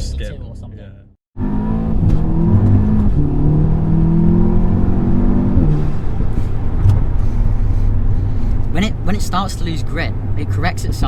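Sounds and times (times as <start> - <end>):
car engine accelerating hard: 1.4 - 11.0
gearbox shifting up: 1.4 - 11.0.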